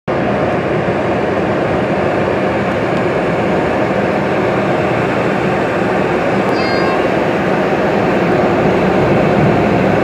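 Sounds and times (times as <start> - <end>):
jet engine roar from cabin: 0.1 - 10.0.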